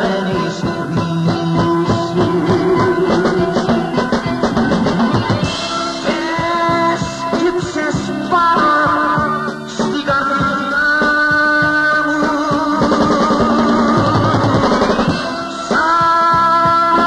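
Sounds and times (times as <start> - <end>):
drum kit: 0.0 - 17.0
live band melody: 0.0 - 17.0.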